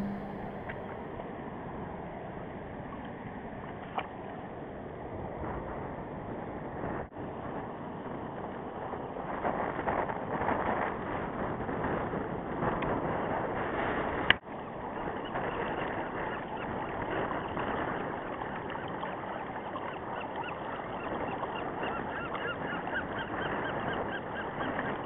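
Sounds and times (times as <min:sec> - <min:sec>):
water noise: 0:00.0 - 0:10.8, 0:14.4 - 0:25.0
wind: 0:00.0 - 0:25.0.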